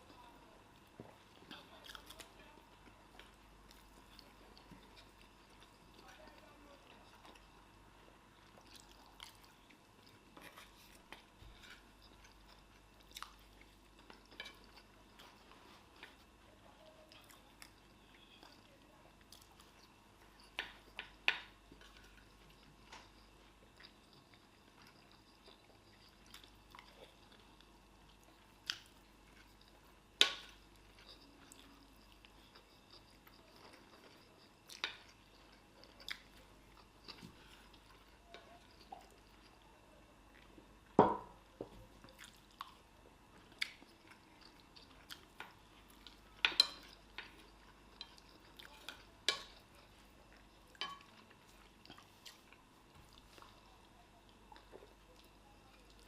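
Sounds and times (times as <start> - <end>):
people chewing and biting: 0.0 - 16.5, 17.1 - 39.6, 40.2 - 56.0.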